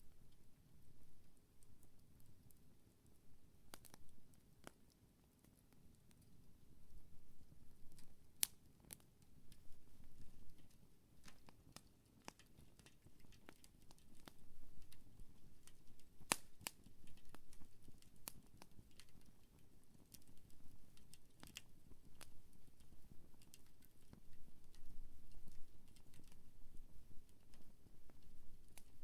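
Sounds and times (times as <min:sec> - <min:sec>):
campfire crackling and popping: 0:00.1 - 0:29.0.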